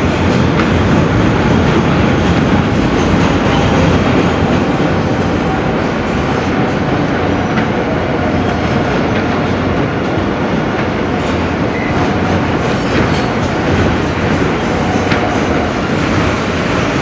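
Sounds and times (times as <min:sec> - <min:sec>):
wheels rumbling on rails: 0:00.0 - 0:17.0.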